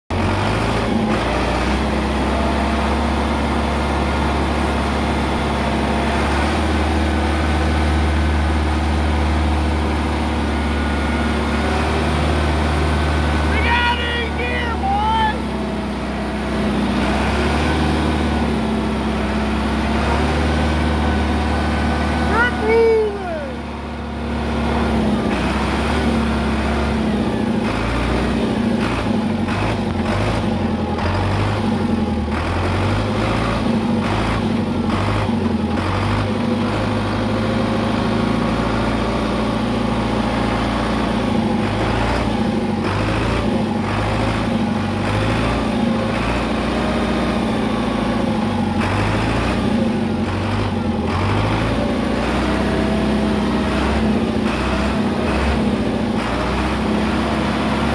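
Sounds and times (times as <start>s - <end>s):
tractor engine running: 0.1s - 57.9s.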